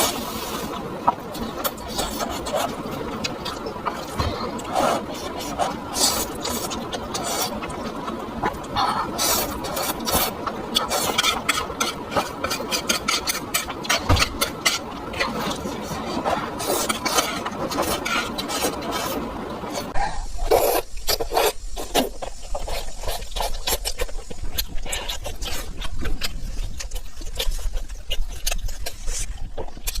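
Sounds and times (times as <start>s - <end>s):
food crunching: 0.0s - 30.0s
chewing with wet mouth clicks: 0.1s - 30.0s.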